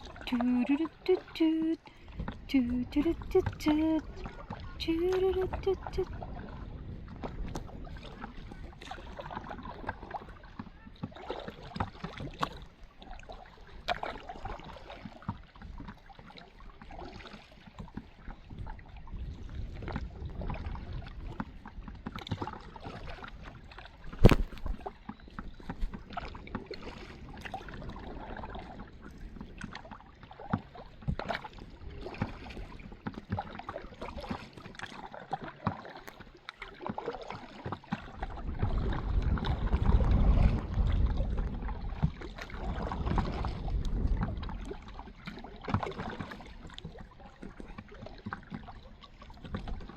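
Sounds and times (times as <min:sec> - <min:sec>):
kayak paddles splashing in water: 0:00.0 - 0:49.9.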